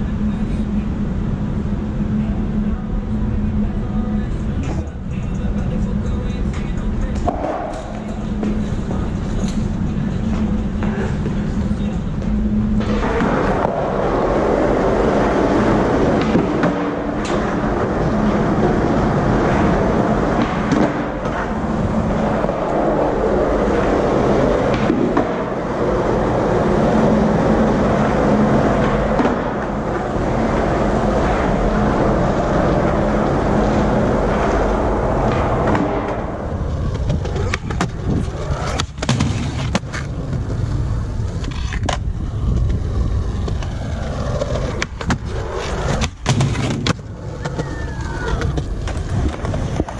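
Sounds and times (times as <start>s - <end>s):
skateboard wheels rolling: 0.0s - 49.9s
skateboard clacks: 6.4s - 9.1s, 12.2s - 49.9s.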